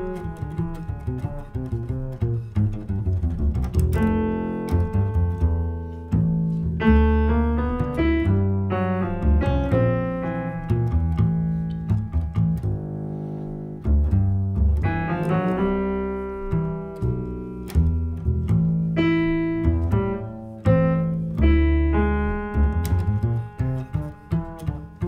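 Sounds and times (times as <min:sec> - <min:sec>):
piano chords: 0:00.0 - 0:25.0
plucked double bass: 0:00.0 - 0:25.0.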